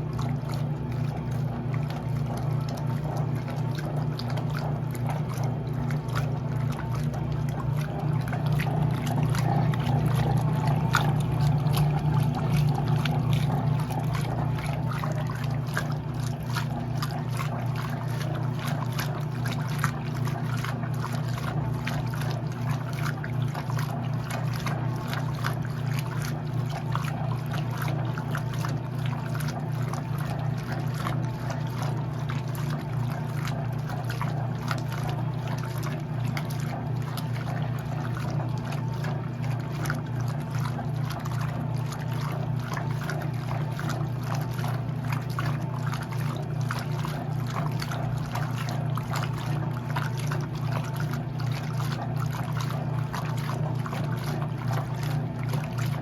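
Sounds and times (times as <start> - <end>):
washing machine motor hum: 0.0 - 56.0
water sloshing and trickling: 0.0 - 56.0.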